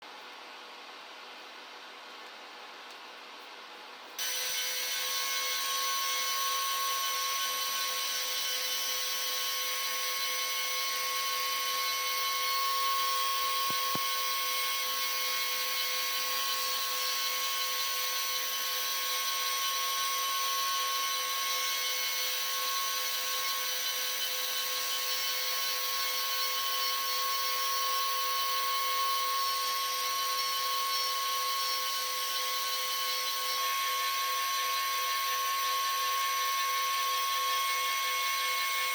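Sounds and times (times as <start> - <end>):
high-speed spindle whine: 4.2 - 38.9.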